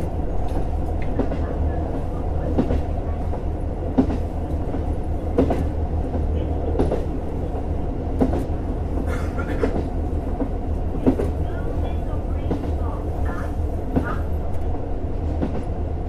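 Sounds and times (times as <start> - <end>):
diesel railcar rumble: 0.0 - 16.0.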